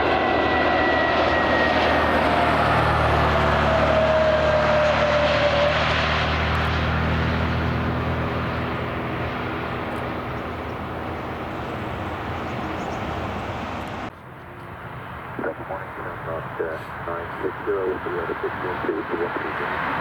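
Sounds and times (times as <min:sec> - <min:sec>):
airliner engines passing by: 0:00.0 - 0:20.0.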